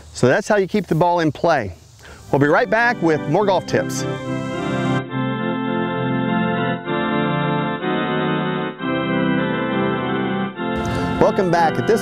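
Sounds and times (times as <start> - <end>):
organ playing held chords: 2.1 - 12.0.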